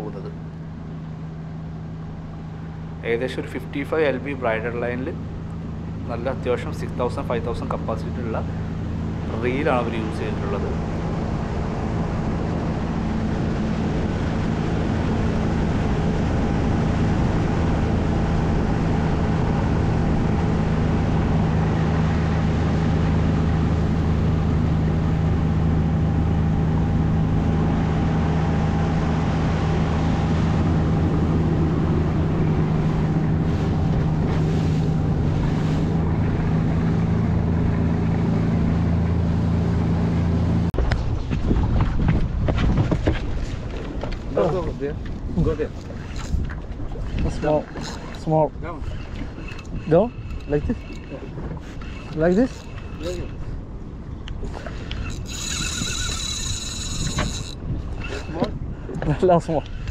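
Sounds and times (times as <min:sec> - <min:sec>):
motorboat engine running: 0:00.0 - 0:59.9
rush of wind and water: 0:00.0 - 0:59.9.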